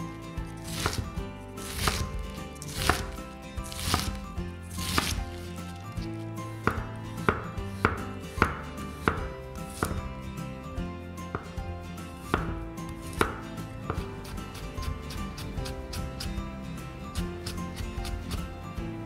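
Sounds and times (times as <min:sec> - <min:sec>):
knife chopping on wooden board: 0:00.6 - 0:10.2, 0:11.2 - 0:16.5, 0:17.1 - 0:18.5.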